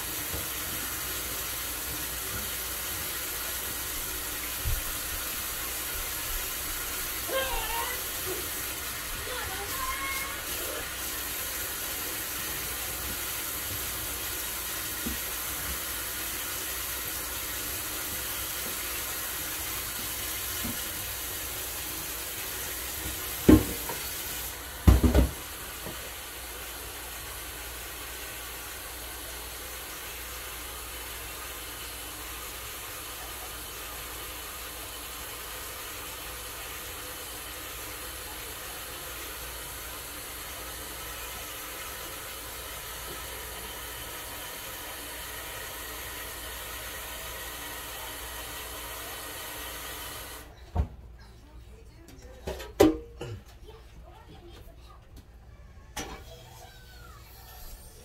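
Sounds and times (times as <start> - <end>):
faucet running into pot: 0.0 - 50.5.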